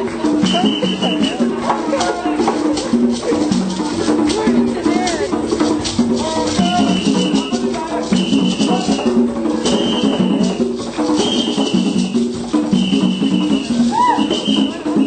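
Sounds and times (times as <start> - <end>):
maracas rattling: 0.0 - 15.0
percussion rhythm: 0.0 - 15.0.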